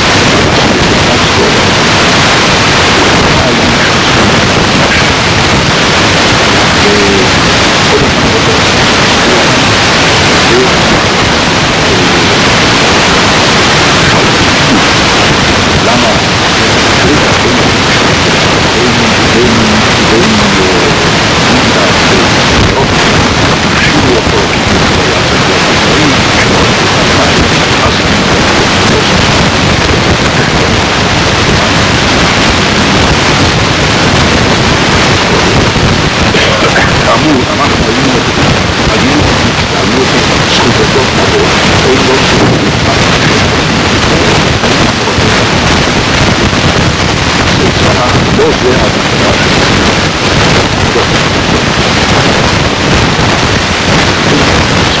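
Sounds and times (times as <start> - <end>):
faint voice: 0.0 - 55.0
recording hiss and static: 0.0 - 55.0.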